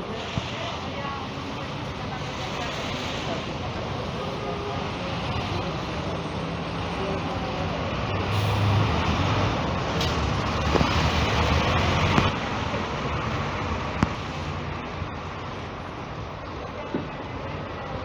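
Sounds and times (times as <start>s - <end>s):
bus diesel engine pulling away: 0.0s - 18.0s
rain hiss: 0.0s - 18.0s.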